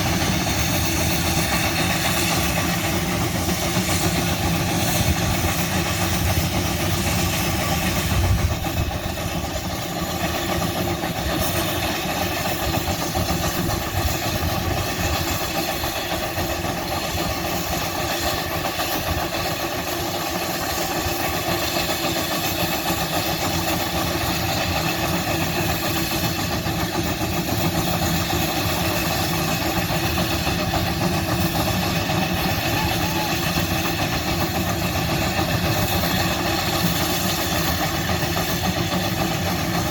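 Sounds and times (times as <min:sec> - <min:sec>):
large engine running: 0:00.0 - 0:39.9.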